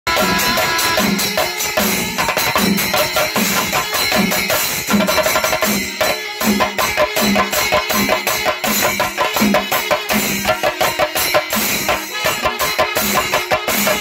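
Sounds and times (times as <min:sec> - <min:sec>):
cymbals: 0:00.1 - 0:14.0
drums: 0:00.1 - 0:14.0.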